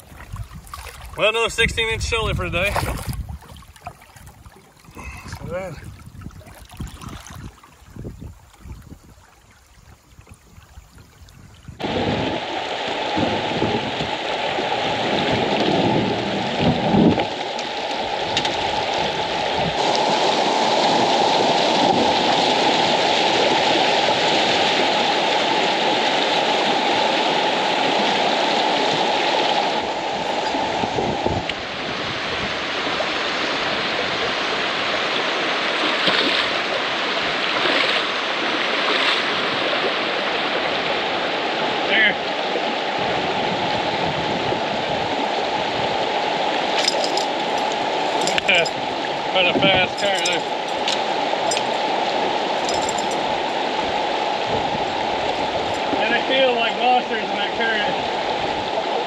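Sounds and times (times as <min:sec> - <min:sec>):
river water rushing: 0:00.0 - 0:10.8, 0:11.8 - 0:59.0.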